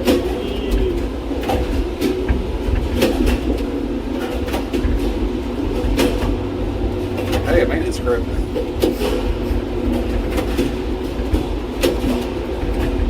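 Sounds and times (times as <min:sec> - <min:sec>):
tram rumbling and whirring: 0:00.0 - 0:13.0.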